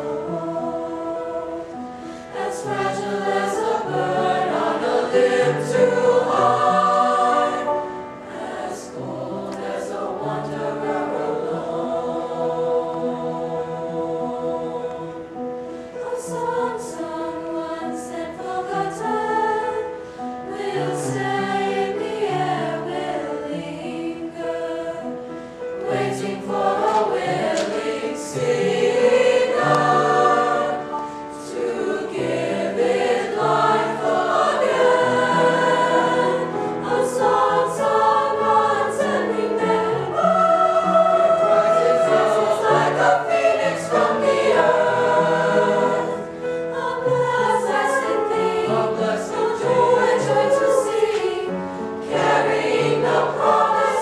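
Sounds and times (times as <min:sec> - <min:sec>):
choir singing in parts: 0:00.0 - 0:54.0.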